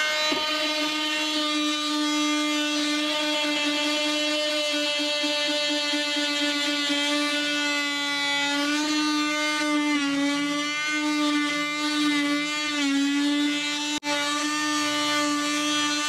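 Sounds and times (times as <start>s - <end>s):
oscillating tool buzzing: 0.0s - 16.0s.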